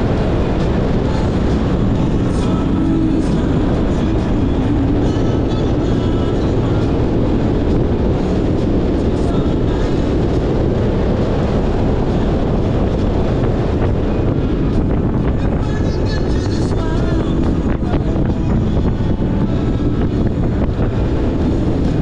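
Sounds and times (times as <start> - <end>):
wind over microphone: 0.0 - 22.0.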